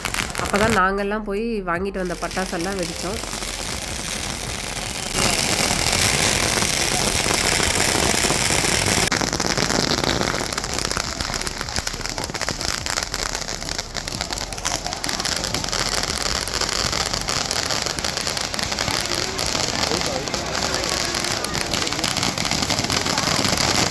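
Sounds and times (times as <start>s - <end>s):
firework hissing: 0.0s - 0.8s, 2.0s - 23.9s
firecrackers crackling and popping: 0.0s - 1.2s, 1.9s - 23.9s.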